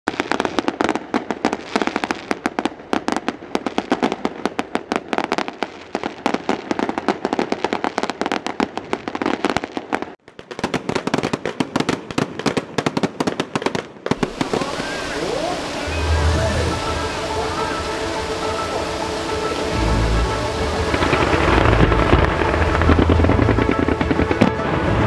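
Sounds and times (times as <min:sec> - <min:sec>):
fireworks and firecrackers cracking: 0:00.1 - 0:25.0.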